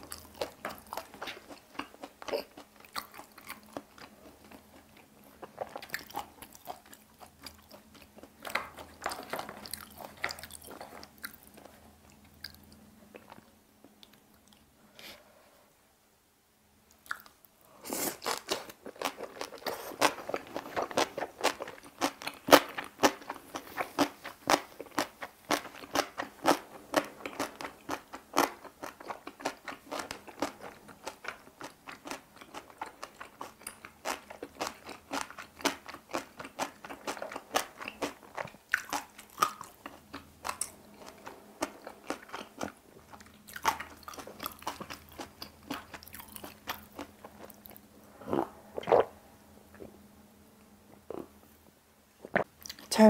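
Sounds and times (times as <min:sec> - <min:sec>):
close chewing crunching: 0:00.0 - 0:14.6, 0:18.1 - 0:49.1.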